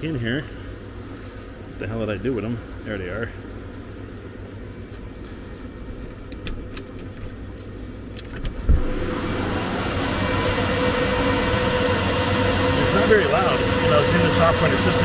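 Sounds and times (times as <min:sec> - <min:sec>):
cooling fans whining: 0:00.0 - 0:15.0.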